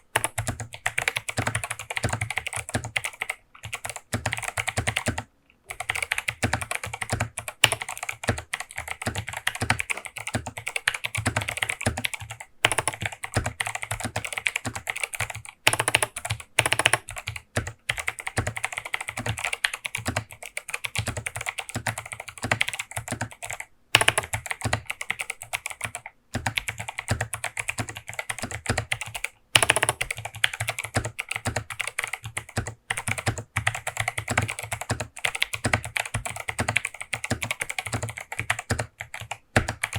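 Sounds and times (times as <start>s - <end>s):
clicky keyboard typing: 0.1s - 39.9s.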